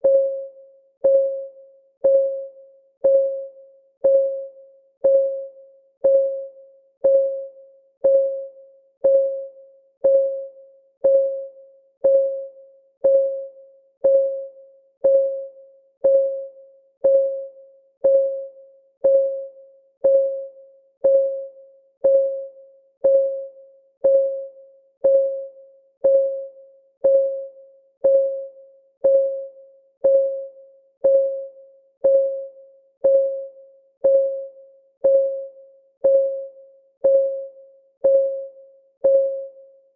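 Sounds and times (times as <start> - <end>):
timer ticking: 1.0 - 39.6.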